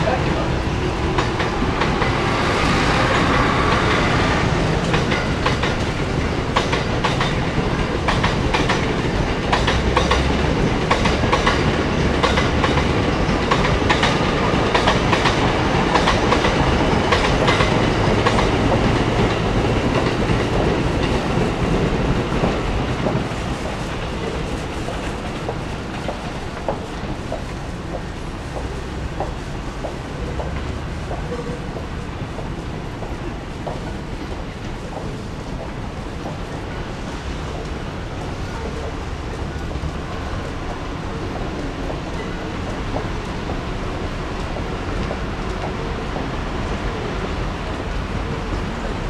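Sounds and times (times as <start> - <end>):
train rumbling past: 0.0 - 49.0.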